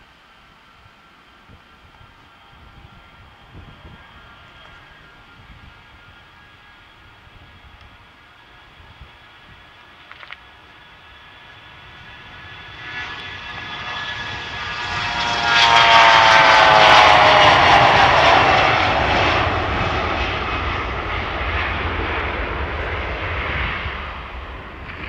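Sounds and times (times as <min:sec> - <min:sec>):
jet engine whine: 0:00.0 - 0:25.0.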